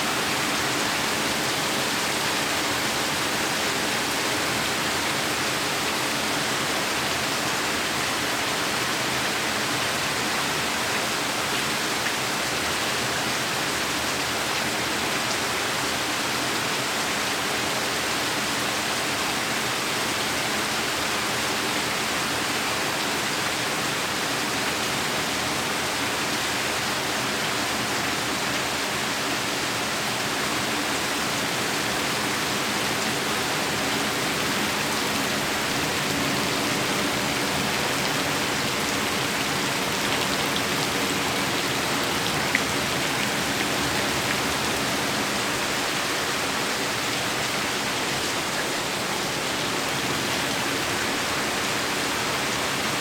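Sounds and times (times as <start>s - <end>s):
heavy rain falling: 0.0s - 18.9s, 21.1s - 53.0s.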